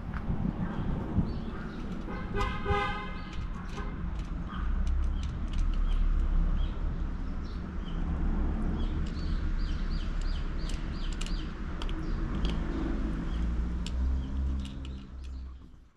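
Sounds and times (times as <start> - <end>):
wild birds chirping: 0.6 - 15.9.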